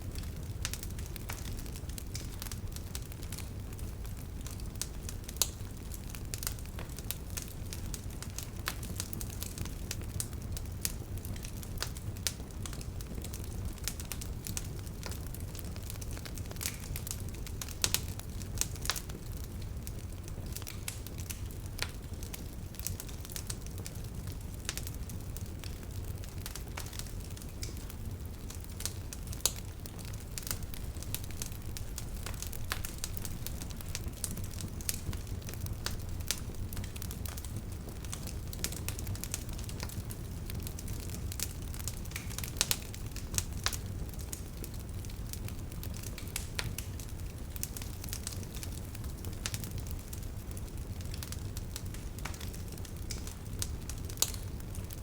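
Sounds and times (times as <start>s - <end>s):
bonfire crackling: 0.0s - 55.0s.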